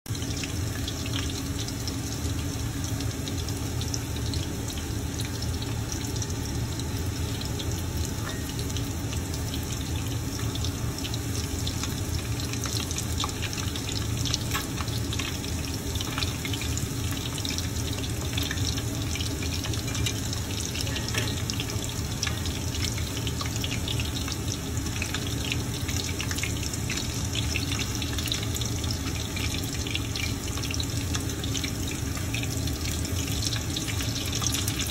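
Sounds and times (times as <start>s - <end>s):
patties sizzling in hot oil: 0.1s - 34.9s.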